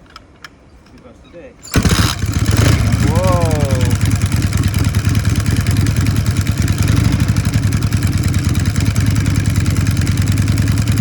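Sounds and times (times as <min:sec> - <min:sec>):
motorcycle engine idling: 0:01.6 - 0:11.0.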